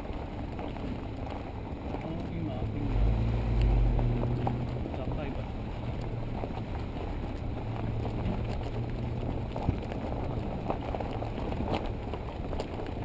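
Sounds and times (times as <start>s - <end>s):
tyres crunching on stones: 0.0s - 13.0s
vehicle engine hum: 0.0s - 13.0s.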